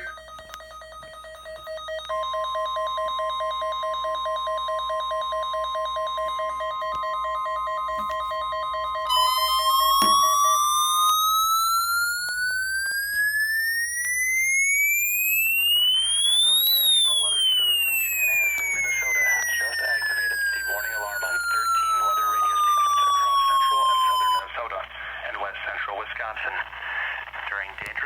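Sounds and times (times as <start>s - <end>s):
rapidly pulsing alarm beep: 0.0s - 24.5s
siren winding up: 0.0s - 24.5s
steady warning tone: 0.0s - 24.5s.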